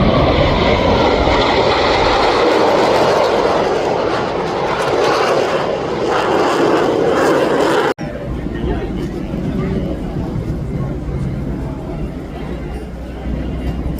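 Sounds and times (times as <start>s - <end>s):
jet noise overhead: 0.0s - 13.9s.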